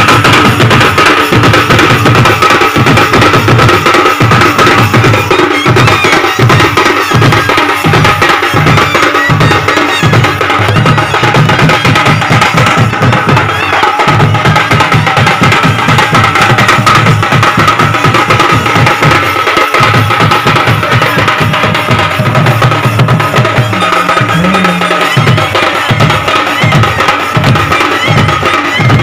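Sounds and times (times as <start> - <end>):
drum ensemble playing: 0.0 - 29.0.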